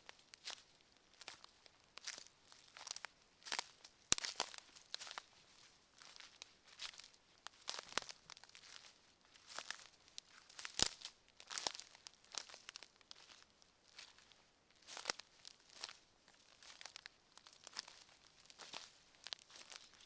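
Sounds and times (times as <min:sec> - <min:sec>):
footsteps on forest floor: 0:01.2 - 0:20.0.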